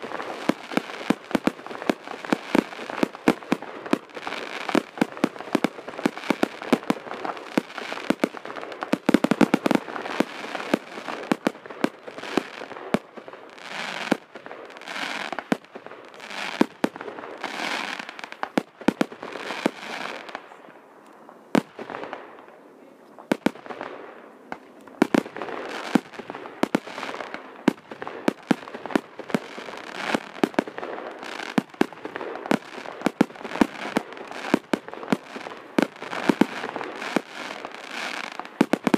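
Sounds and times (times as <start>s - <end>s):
fireworks hissing: 0.0s - 20.4s, 24.9s - 38.9s
fireworks bangs and crackles: 0.0s - 38.9s.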